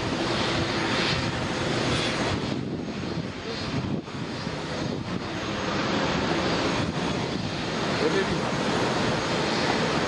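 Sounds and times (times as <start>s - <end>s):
heavy highway traffic: 0.0s - 10.0s.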